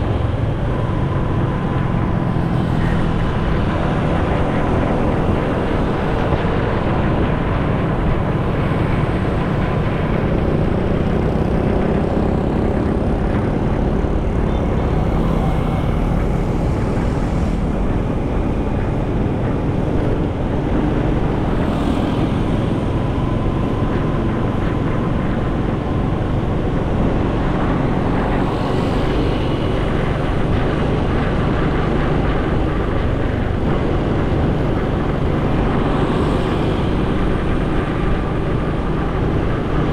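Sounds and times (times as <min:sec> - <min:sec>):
motorcycle engine drone: 0:00.0 - 0:39.9
wind rush over microphone: 0:00.0 - 0:39.9.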